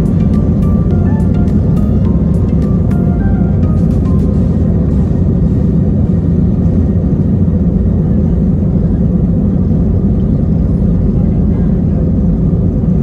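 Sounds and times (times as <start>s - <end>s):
airliner cabin engine noise: 0.0s - 13.0s.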